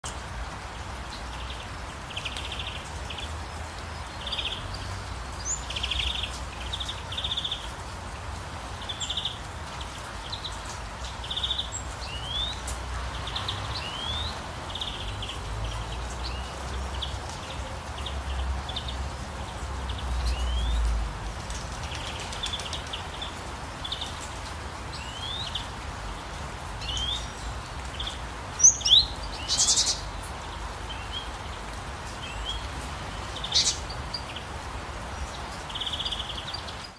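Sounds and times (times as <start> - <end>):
rain hiss: 0.0 - 36.9
songbirds chirping: 0.0 - 36.9.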